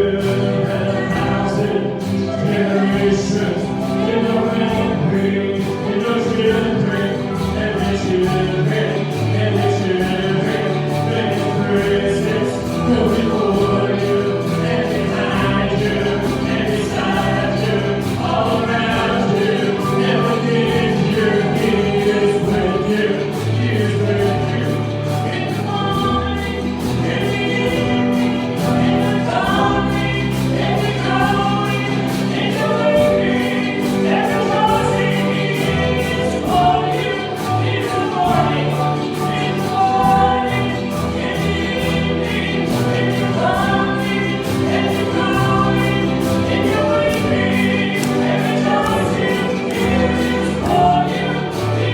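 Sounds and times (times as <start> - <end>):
choir singing a hymn: 0.0 - 51.9
instrumental accompaniment: 0.0 - 51.9.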